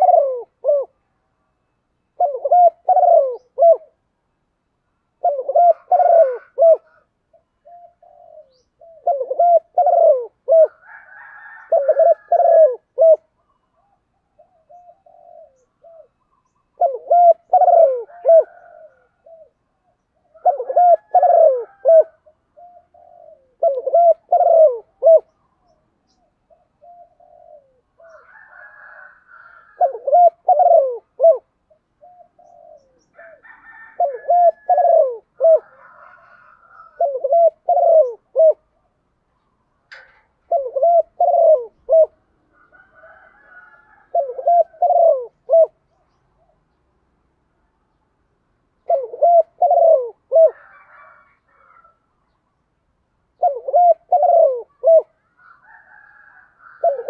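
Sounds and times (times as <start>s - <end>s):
dove cooing: 0.0s - 1.1s, 2.1s - 4.1s, 5.2s - 46.8s, 48.8s - 52.0s, 53.4s - 57.0s.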